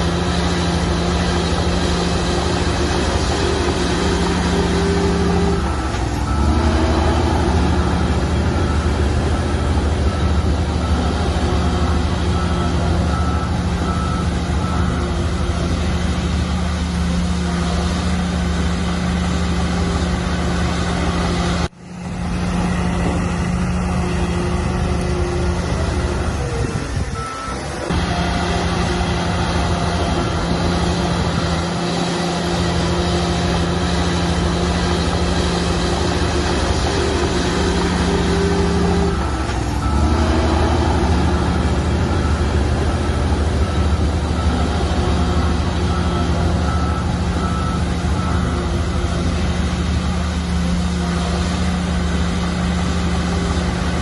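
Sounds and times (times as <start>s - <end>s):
reversing alarm beeping: 0.0s - 21.7s, 22.6s - 53.6s
heavy diesel engines running: 0.0s - 54.0s.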